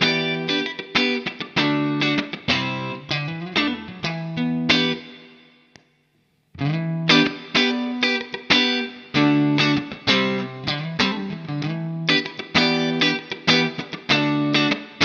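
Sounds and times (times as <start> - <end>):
electric guitar chords and notes: 0.0 - 5.9, 6.6 - 15.0.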